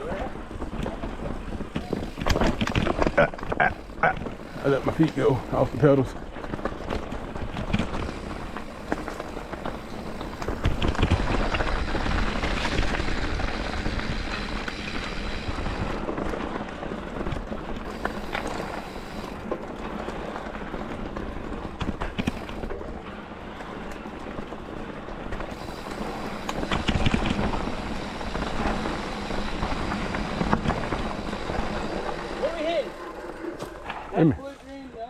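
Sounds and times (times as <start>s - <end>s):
bike rattling and clicking: 0.0s - 35.0s
bike tyre and wind noise: 0.0s - 35.0s.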